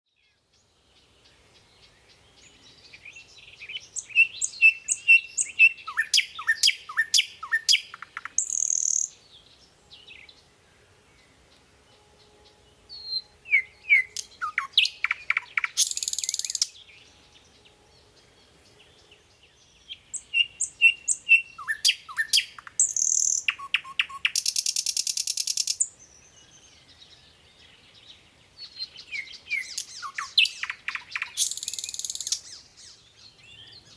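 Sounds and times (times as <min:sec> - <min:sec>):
songbird chirping and whistling: 0:02.5 - 0:10.4, 0:12.2 - 0:17.7, 0:18.8 - 0:27.4, 0:28.6 - 0:33.9.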